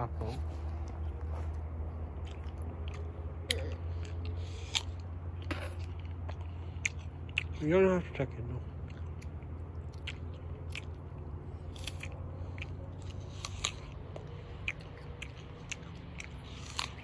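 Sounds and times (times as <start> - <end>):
child chewing apple: 0.0 - 17.0
steady low hum: 0.0 - 17.0.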